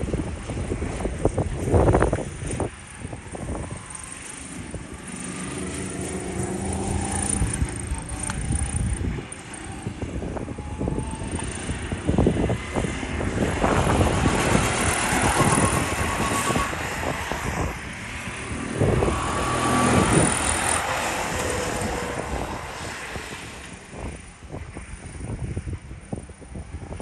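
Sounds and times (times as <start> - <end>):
go-kart engine running: 0.0 - 27.0
wind buffeting microphone: 0.0 - 27.0.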